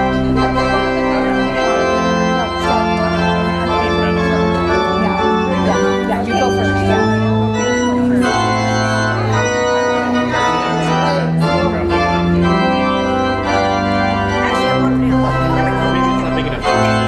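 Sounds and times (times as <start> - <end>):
organ music: 0.0 - 17.0.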